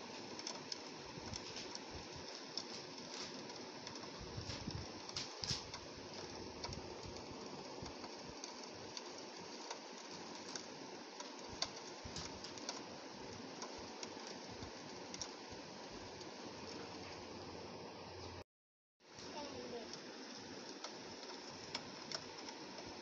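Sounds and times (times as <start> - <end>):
rain hissing: 0.0 - 18.4, 19.0 - 23.0.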